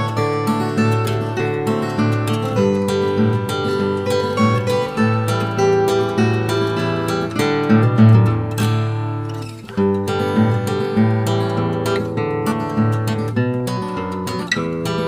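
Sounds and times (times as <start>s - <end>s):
acoustic guitar plucked and strummed: 0.0s - 15.0s.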